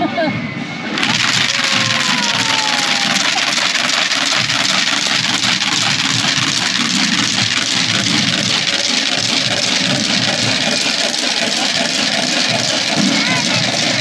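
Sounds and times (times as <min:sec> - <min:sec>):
street noise: 0:00.0 - 0:14.0.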